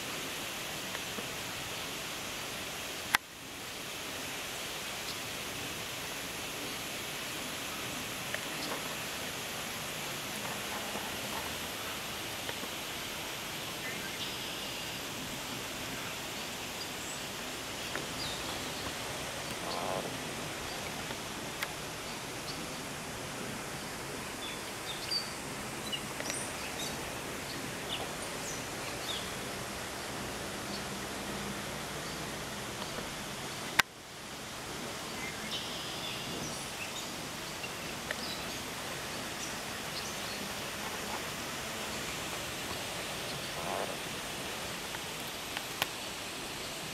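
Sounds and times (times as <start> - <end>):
even outdoor hiss: 0.0 - 46.9.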